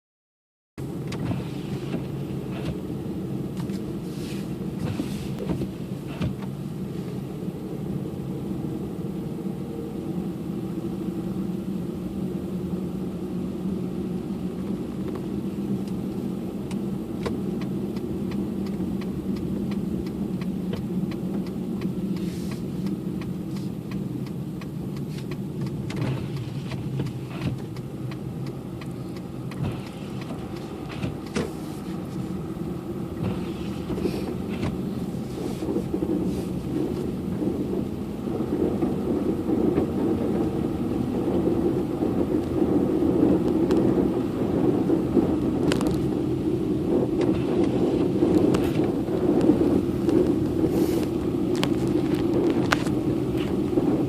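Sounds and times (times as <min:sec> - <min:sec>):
car engine and road hum: 0:00.8 - 0:54.0.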